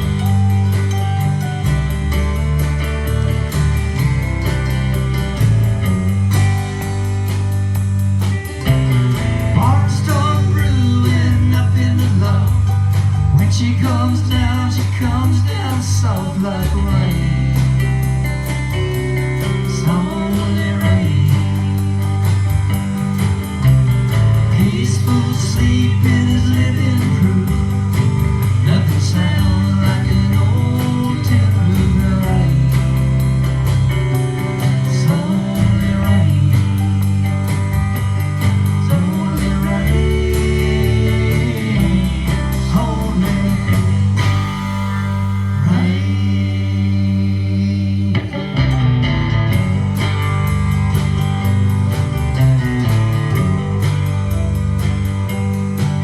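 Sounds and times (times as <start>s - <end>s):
blues-rock band playing: 0.0s - 56.0s.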